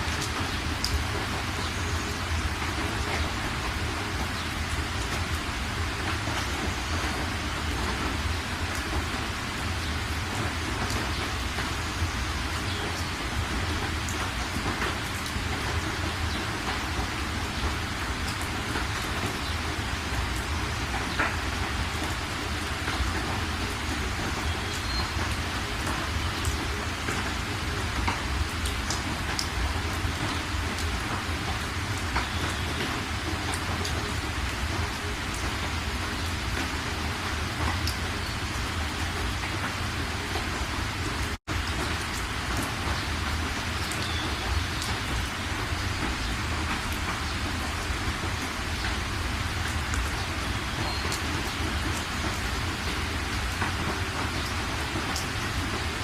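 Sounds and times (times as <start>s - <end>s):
rain hiss: 0.0s - 56.0s.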